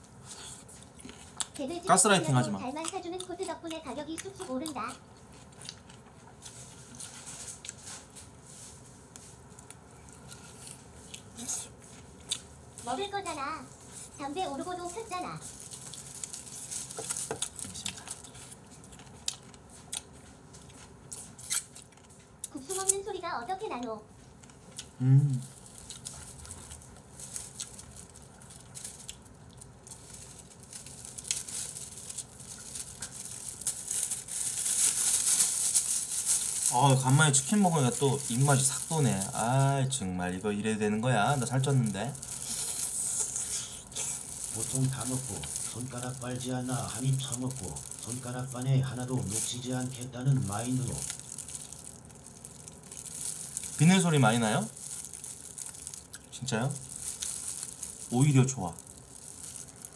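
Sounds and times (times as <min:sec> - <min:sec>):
faint steady hum: 0:00.0 - 0:59.9
fried chicken crinkling in hand: 0:04.2 - 0:23.0, 0:24.2 - 0:59.9.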